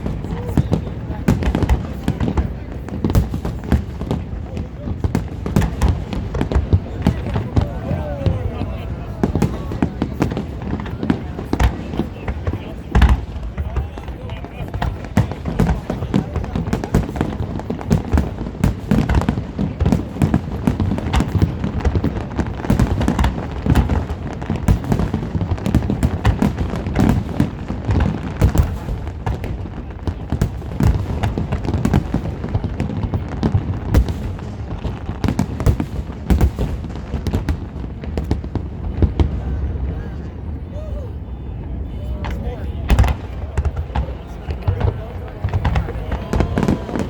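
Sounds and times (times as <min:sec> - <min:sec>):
fireworks booming and cracking: 0:00.0 - 0:47.0.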